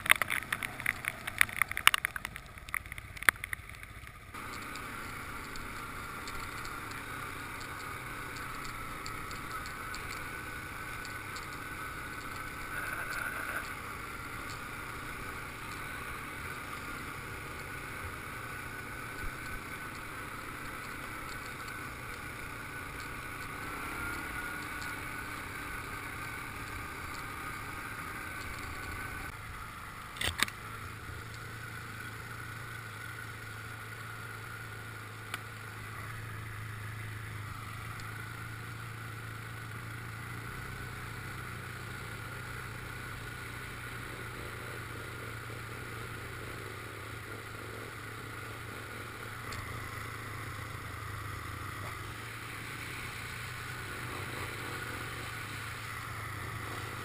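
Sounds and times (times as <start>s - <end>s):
sharp crackling clicks: 0.0s - 29.4s, 30.0s - 57.0s
quad bike engine running: 0.0s - 57.0s.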